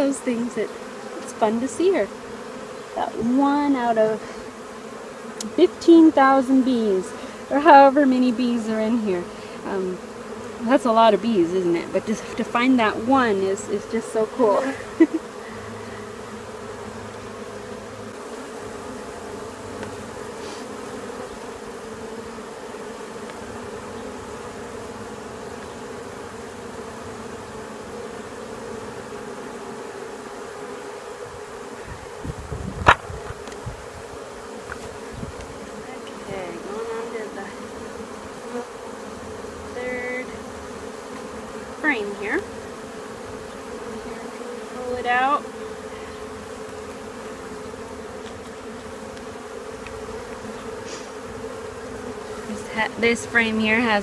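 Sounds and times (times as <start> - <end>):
honeybees buzzing: 0.0 - 54.0
louder bee buzzes: 0.0 - 54.0.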